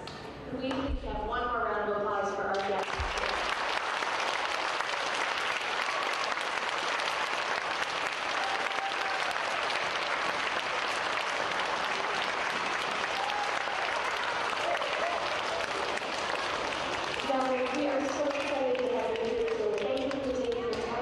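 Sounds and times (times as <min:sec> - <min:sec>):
crowd clapping: 0:02.5 - 0:21.0.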